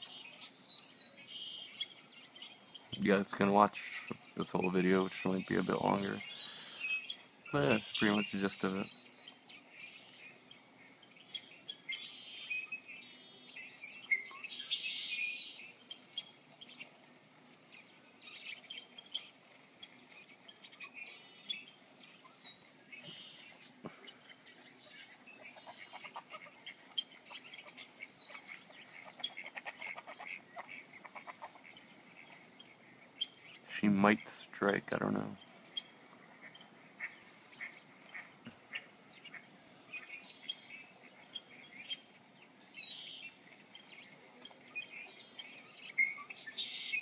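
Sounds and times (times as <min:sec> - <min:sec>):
birdsong through small speaker: 0:00.0 - 0:47.0.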